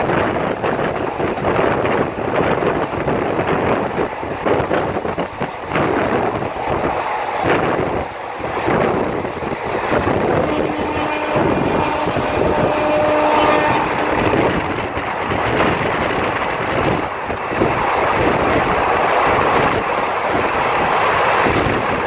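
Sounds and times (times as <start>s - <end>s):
moving train rumble: 0.0s - 22.0s
wind buffeting microphone: 0.0s - 22.0s.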